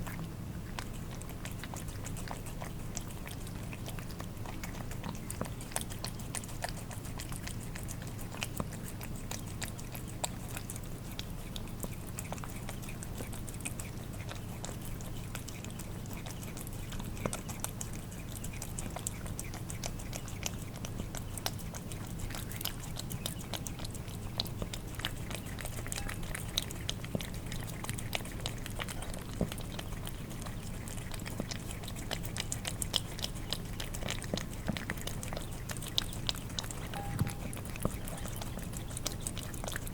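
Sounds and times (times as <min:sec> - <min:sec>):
cats eating wet food: 0:00.0 - 0:39.9
steady low hum: 0:00.0 - 0:39.9.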